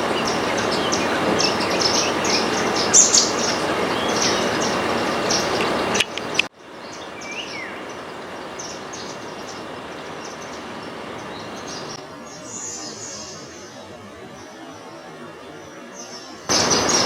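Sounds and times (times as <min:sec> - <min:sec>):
birds chirping: 0:00.0 - 0:17.0
steady background hiss: 0:00.0 - 0:17.0.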